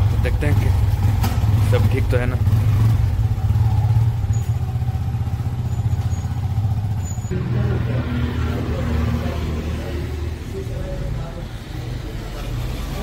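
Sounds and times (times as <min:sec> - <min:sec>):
motorcycle engine low rumble: 0:00.0 - 0:13.0.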